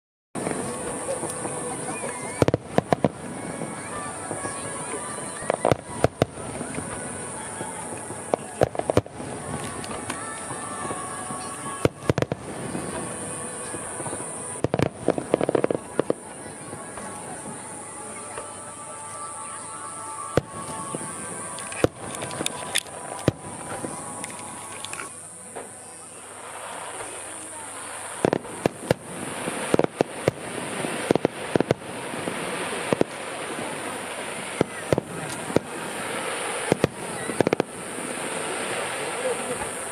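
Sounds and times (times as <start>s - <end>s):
fireworks bangs: 0.4s - 39.9s
fireworks crackling: 0.4s - 39.9s
steady background hiss: 0.4s - 39.9s.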